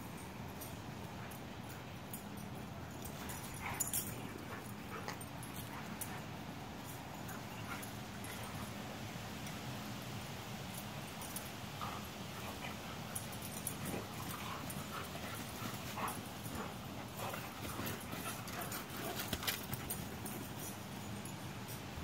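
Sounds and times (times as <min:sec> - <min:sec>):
dogs play-fighting: 0:00.1 - 0:09.7, 0:10.6 - 0:21.9.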